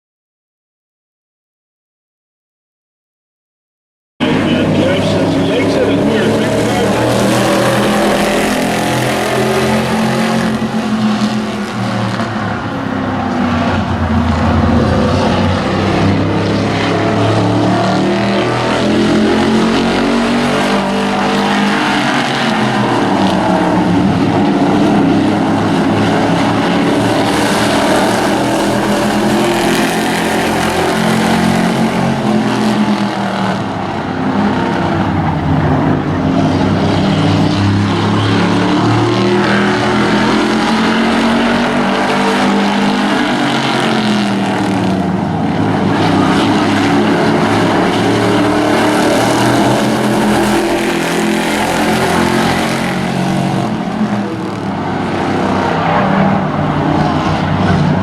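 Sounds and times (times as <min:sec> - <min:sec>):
race truck engines: 0:04.2 - 0:58.0.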